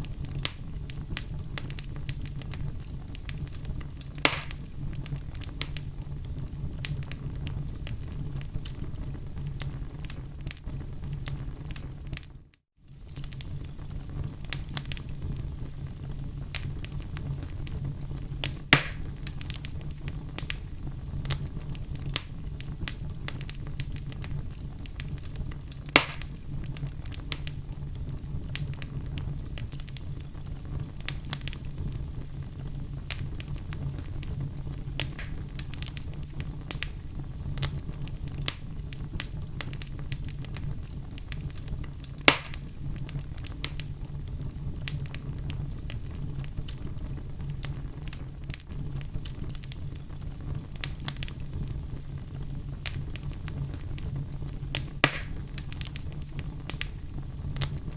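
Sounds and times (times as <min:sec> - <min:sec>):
fireplace fire crackling: 0:00.0 - 0:57.9.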